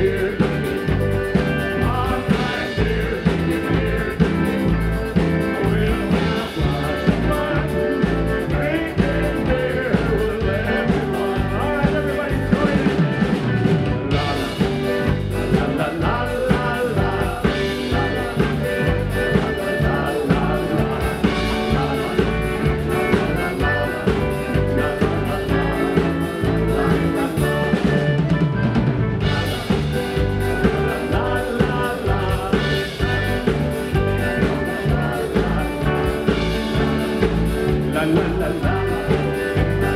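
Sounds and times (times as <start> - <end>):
drum kit beat: 0.0 - 39.9
electric guitar: 0.0 - 39.9
keyboard: 0.0 - 39.9
piano accordion: 0.0 - 39.9.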